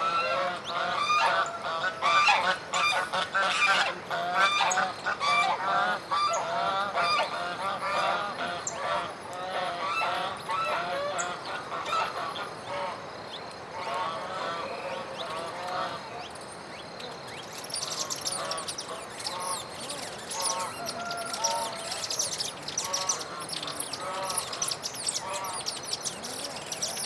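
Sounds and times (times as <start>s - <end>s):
group of birds calling: 0.0s - 13.1s, 17.5s - 27.0s.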